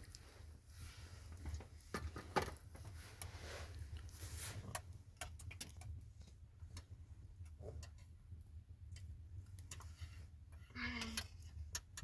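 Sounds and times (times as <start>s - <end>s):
light clicks and taps: 1.4s - 8.2s, 8.9s - 12.0s.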